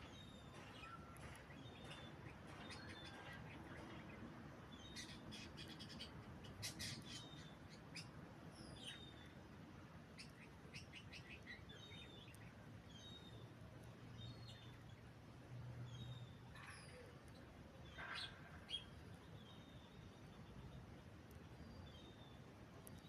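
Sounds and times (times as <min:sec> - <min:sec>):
faint bird chirps and clicks: 0:00.0 - 0:09.3, 0:10.1 - 0:15.1, 0:15.9 - 0:23.0.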